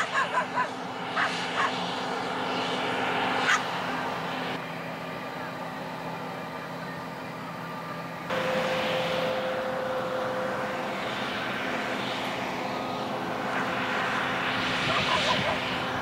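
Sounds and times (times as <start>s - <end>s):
combine harvester drone: 0.0s - 16.0s
machine whine: 0.0s - 16.0s.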